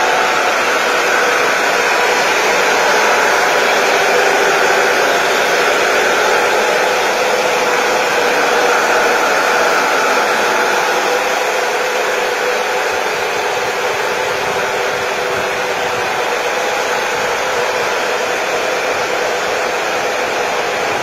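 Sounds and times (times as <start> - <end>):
cooling machinery whirring: 0.0 - 21.0.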